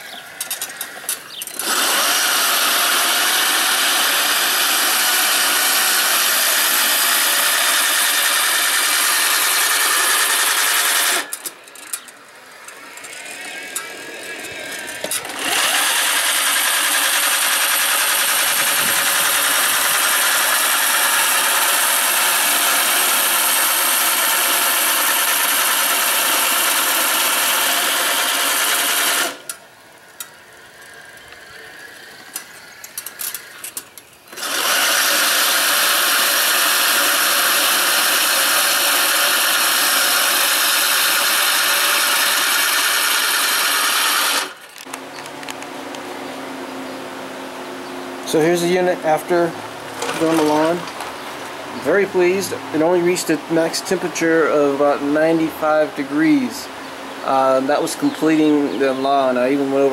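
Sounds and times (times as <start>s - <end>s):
reel lawn mower running: 0.1s - 29.6s, 30.2s - 51.1s.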